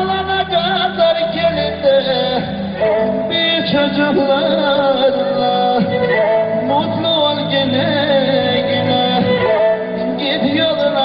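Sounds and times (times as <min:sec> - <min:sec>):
instrumental accompaniment: 0:00.0 - 0:11.0
person singing folk song: 0:00.0 - 0:11.0.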